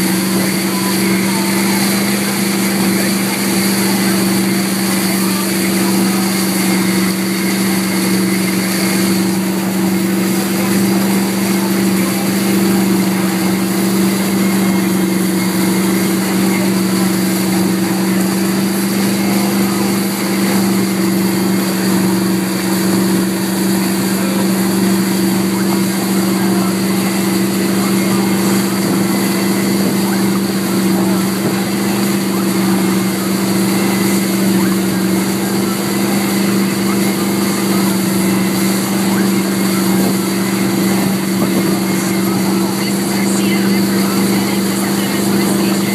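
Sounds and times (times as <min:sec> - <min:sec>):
boat engine droning: 0:00.0 - 0:45.9
rush of boat wake: 0:00.0 - 0:45.9.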